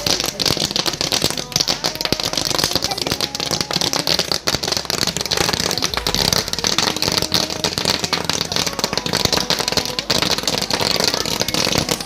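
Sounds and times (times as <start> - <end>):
toy caps crackling: 0.0 - 12.0.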